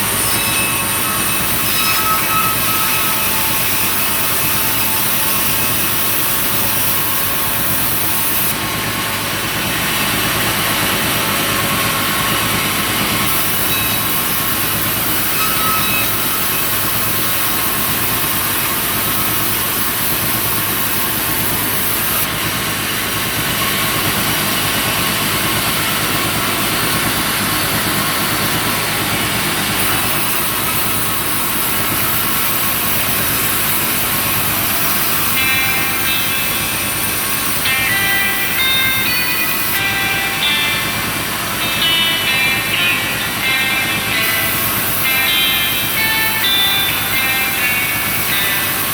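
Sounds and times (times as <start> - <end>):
engine-driven wood saw: 0.0 - 48.9.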